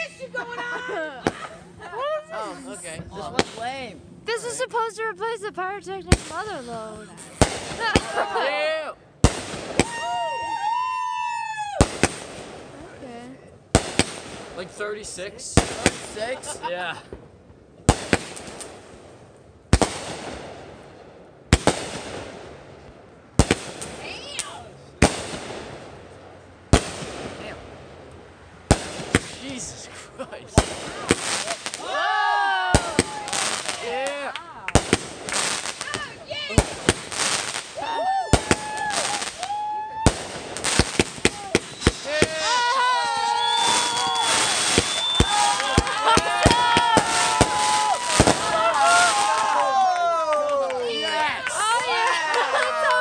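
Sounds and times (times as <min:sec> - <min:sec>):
fireworks bangs: 0:01.2 - 0:01.5, 0:02.8 - 0:04.5, 0:06.0 - 0:08.3, 0:09.2 - 0:13.0, 0:13.7 - 0:49.8.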